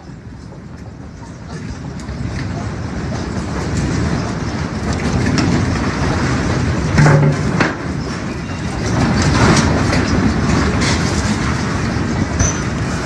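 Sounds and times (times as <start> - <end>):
deep earthquake rumble: 0.0 - 13.0.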